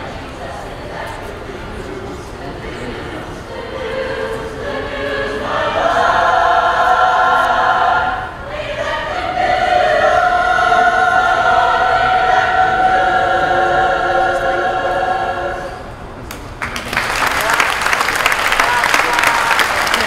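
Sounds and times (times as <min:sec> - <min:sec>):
choir singing sustained chords: 0:00.0 - 0:16.3.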